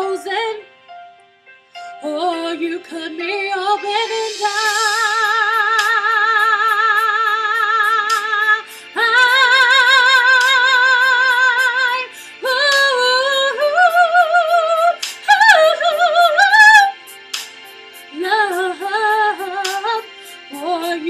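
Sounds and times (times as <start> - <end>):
woman singing pop ballad: 0.0 - 0.7, 1.8 - 21.0
backing track: 3.7 - 21.0.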